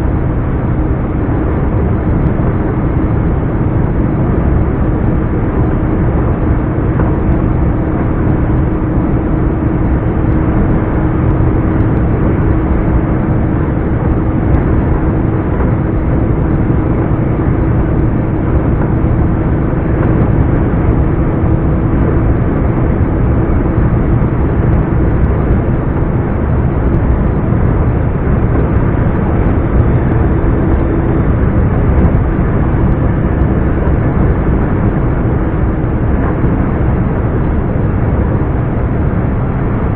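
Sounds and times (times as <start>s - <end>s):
steady tone: 0.0s - 39.9s
truck diesel engine droning: 0.0s - 39.9s.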